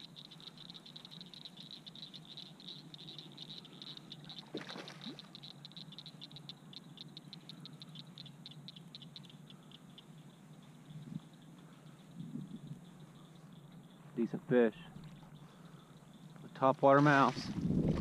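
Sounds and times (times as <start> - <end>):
rapid clicking calls: 0.0 - 17.3
faint steady background hum: 0.0 - 18.0.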